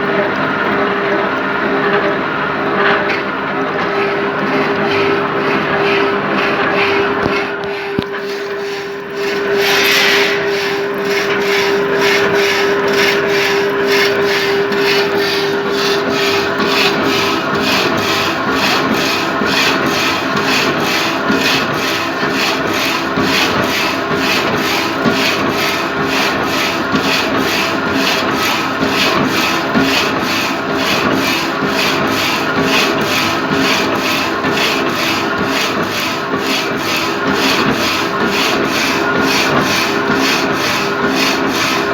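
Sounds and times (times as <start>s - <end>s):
reciprocating saw cutting: 7.2s - 41.9s.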